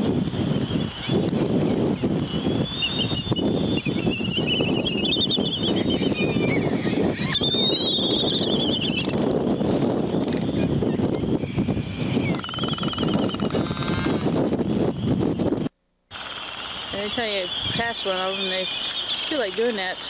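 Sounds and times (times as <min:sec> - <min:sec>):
wind rumbling on microphone: 0:00.0 - 0:15.7, 0:16.8 - 0:20.0
high warbling bird calls: 0:00.4 - 0:09.2, 0:10.4 - 0:14.2, 0:16.2 - 0:20.0.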